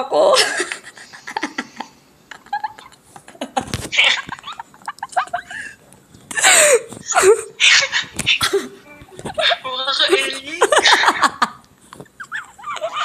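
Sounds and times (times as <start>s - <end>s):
people giggling: 0.4s - 5.8s, 6.4s - 13.0s.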